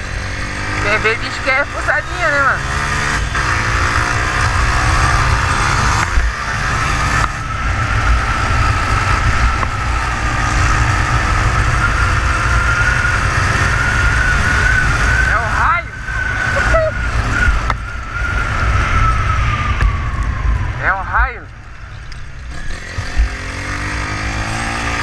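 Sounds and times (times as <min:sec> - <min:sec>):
motorcycle engine whining: 0:00.0 - 0:25.0.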